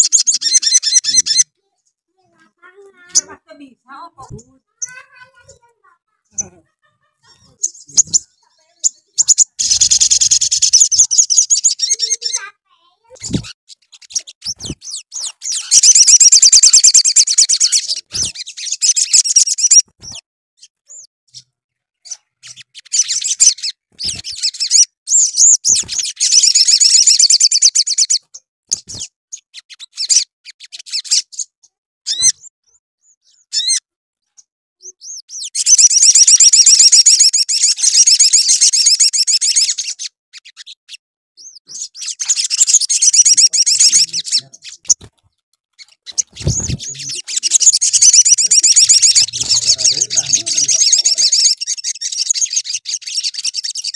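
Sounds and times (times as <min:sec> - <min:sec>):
bird chips: 0:00.0 - 0:01.5, 0:04.3 - 0:53.9
sunbird trilling song: 0:00.0 - 0:01.8, 0:07.2 - 0:45.1, 0:45.8 - 0:53.9.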